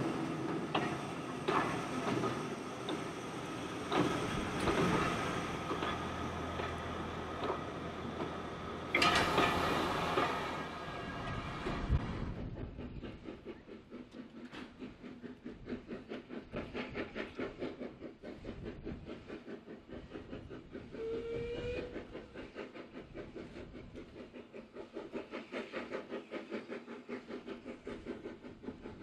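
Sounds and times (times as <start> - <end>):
regular rhythmic train beat: 0.0 - 29.0
train clanking and rumbling: 0.0 - 29.0.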